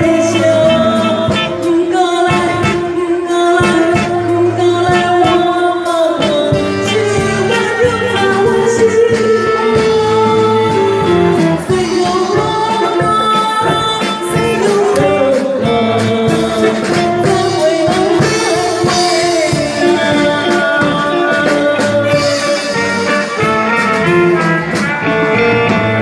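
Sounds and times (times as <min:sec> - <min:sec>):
person singing long notes: 0:00.0 - 0:24.8
guitar: 0:00.0 - 0:26.0
steady drum beat: 0:00.0 - 0:26.0.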